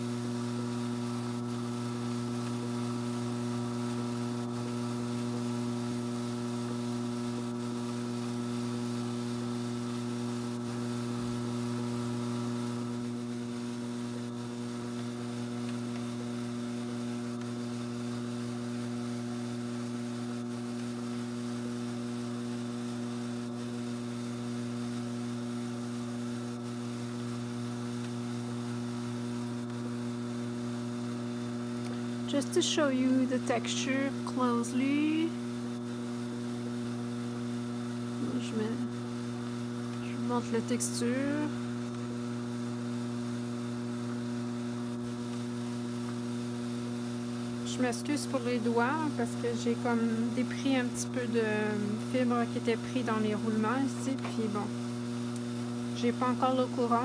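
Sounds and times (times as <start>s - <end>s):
drum carder motor humming: 0.0s - 57.0s.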